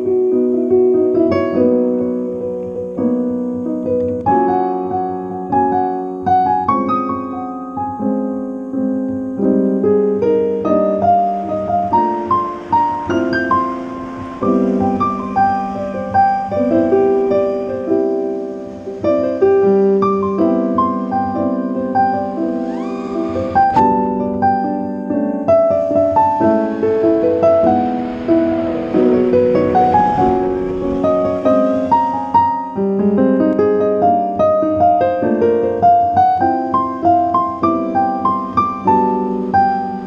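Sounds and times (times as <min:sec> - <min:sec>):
slow piano chords: 0:00.0 - 0:40.0.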